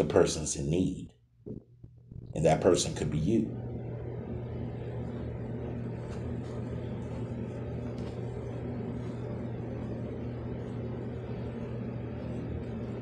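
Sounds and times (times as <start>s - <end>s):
rumbling background noise: 0.0s - 13.0s
steady low hum: 0.0s - 13.0s.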